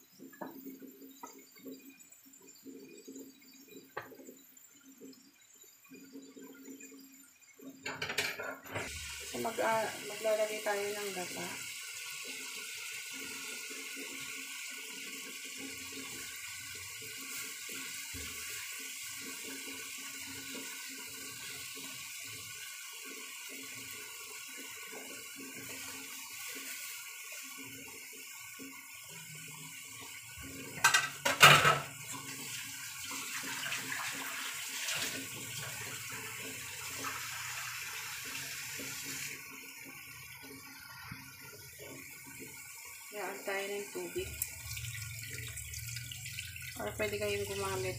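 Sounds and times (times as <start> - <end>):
food sizzling in a pan: 0.0 - 47.9.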